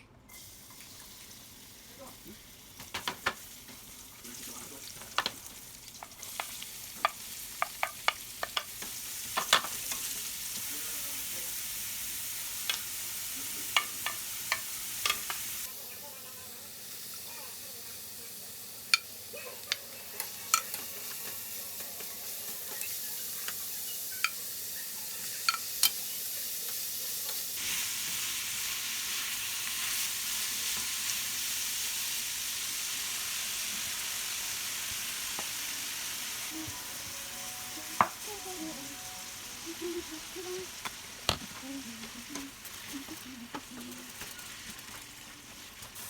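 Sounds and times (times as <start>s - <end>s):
fish frying in hot oil: 0.4s - 37.3s, 39.0s - 46.0s.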